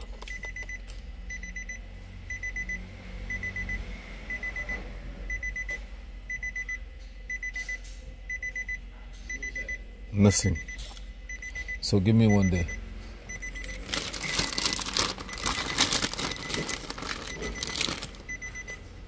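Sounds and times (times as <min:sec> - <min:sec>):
electronic warning beeper: 0:00.3 - 0:18.8.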